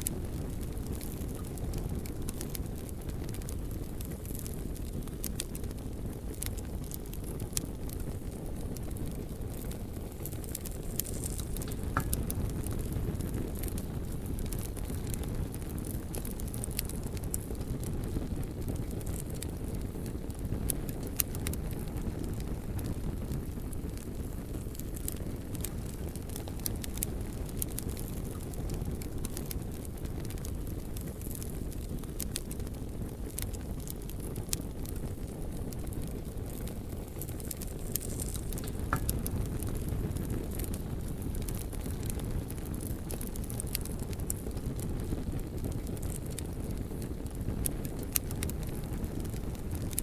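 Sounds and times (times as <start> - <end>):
fire crackling and popping: 0.0 - 50.0
fire flames rumbling: 0.0 - 50.0.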